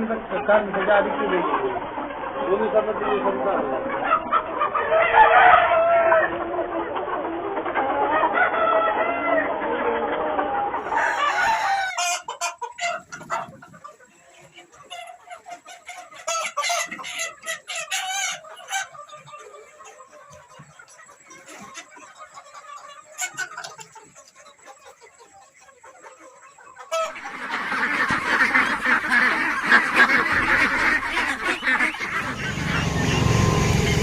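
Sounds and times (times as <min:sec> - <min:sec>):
flock of chickens clucking: 0:00.0 - 0:34.0.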